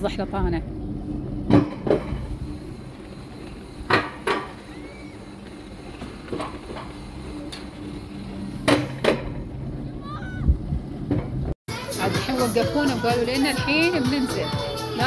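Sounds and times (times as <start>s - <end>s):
low ride hum: 0.0s - 15.0s.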